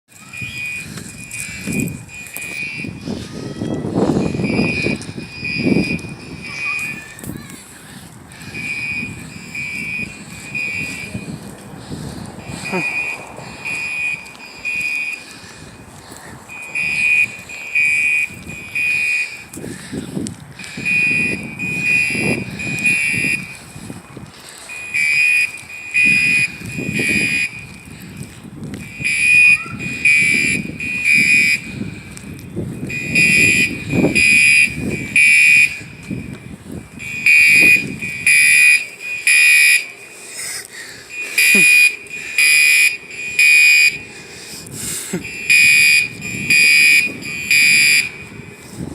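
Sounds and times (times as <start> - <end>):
fire alarm beeping: 0.2 - 3.2, 3.9 - 7.2, 8.3 - 11.5, 12.4 - 15.8, 16.5 - 19.6, 20.6 - 24.0, 24.6 - 28.0, 28.8 - 31.8, 32.7 - 40.1, 41.1 - 44.2, 45.1 - 48.6.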